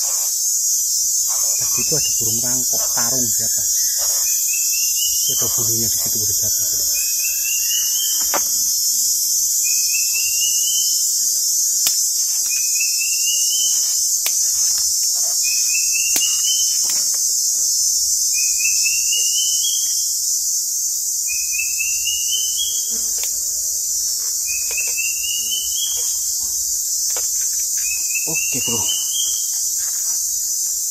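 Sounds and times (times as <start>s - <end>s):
insects droning: 0.0s - 30.9s.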